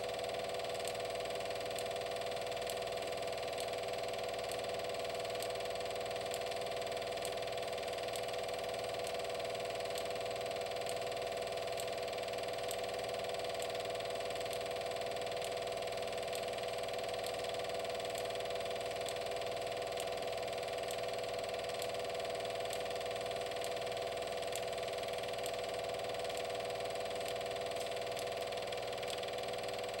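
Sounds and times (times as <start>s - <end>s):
steady mechanical hum: 0.0s - 30.0s
faint regular ticking: 0.1s - 30.0s.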